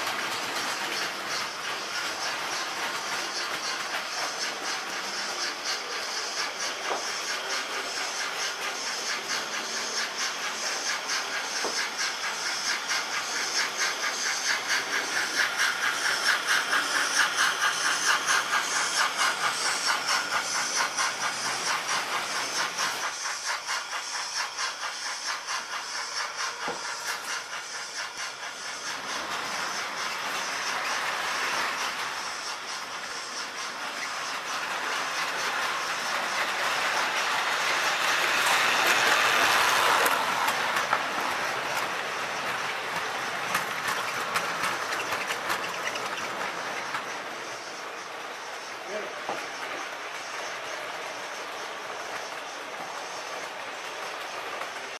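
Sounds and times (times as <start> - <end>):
model train wheels rattling: 0.0 - 54.9.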